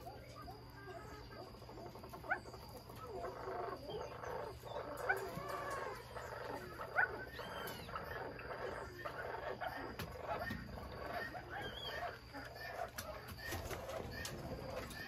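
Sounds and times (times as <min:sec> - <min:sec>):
overlapping bird calls: 0:00.0 - 0:15.0.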